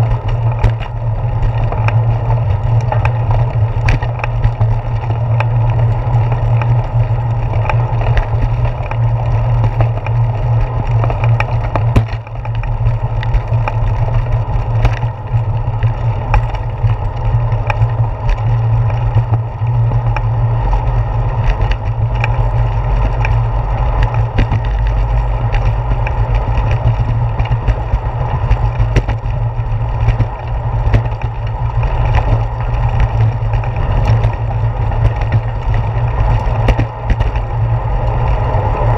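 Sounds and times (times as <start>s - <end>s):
bicycle rolling noise: 0.0s - 38.9s
small clicks and rattles: 0.0s - 38.9s
wind rumble: 0.0s - 38.9s.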